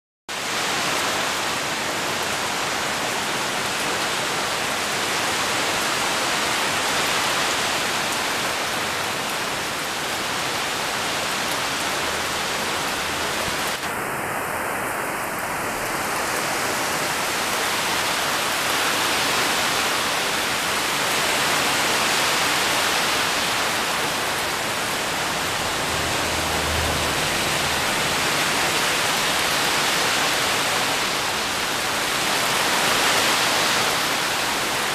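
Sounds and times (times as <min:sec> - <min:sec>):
heavy rain on foliage: 0:00.3 - 0:34.9.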